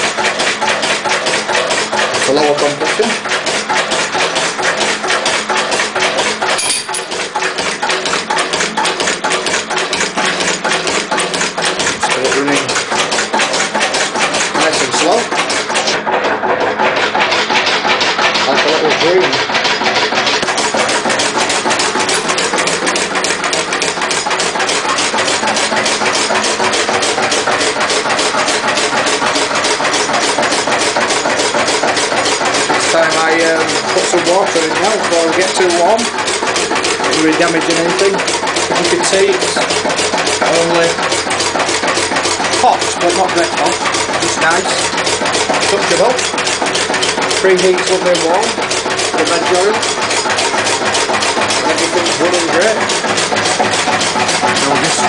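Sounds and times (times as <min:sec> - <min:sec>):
diesel engine running slowly: 0:00.0 - 0:55.0.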